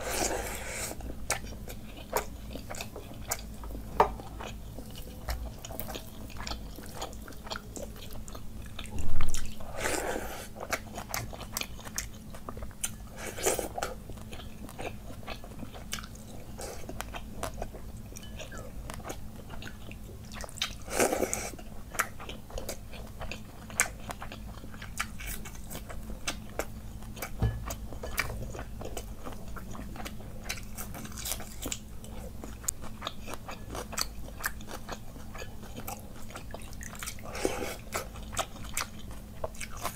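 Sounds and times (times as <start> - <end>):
wet chewing and mouth smacking: 1.3 - 39.9.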